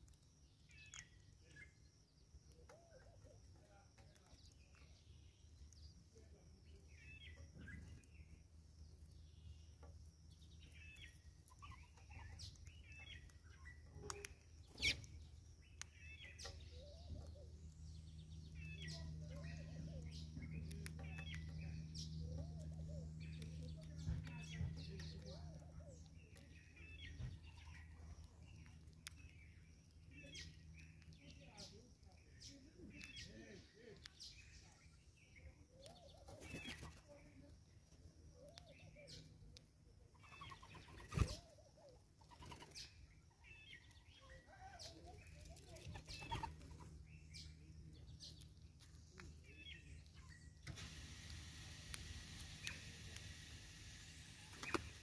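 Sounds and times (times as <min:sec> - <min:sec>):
low steady hum: 0:00.0 - 0:55.0
small birds chirping: 0:00.0 - 0:55.0.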